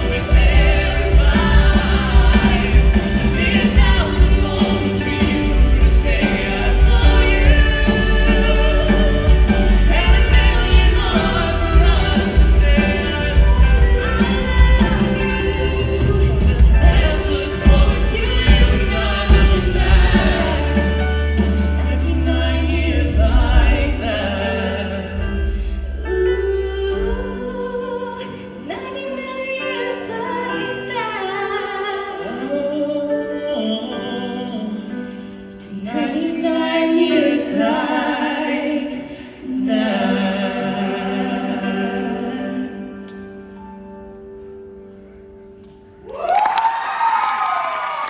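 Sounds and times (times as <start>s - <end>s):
male and female singing duet: 0.0s - 43.5s
live pop band: 0.0s - 48.0s.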